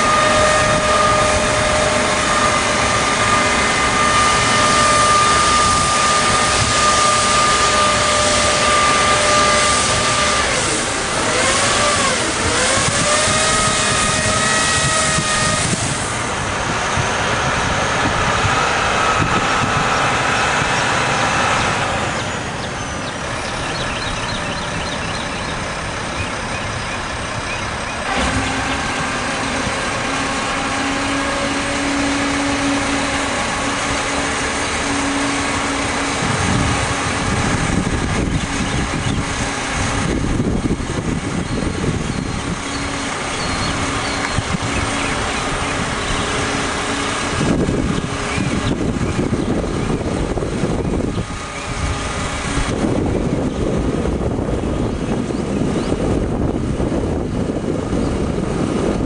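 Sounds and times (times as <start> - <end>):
diesel truck engine running: 0.0 - 59.0
low hum: 0.0 - 59.0.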